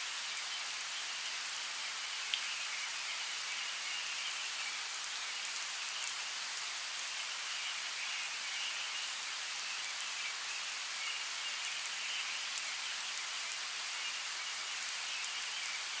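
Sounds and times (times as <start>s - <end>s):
light rain hissing: 0.0s - 16.0s.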